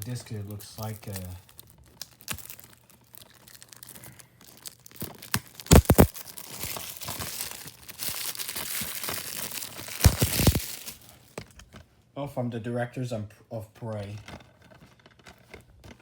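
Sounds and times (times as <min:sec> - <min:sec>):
plastic wrapping tearing and crinkling: 0:00.0 - 0:11.8, 0:14.2 - 0:16.0.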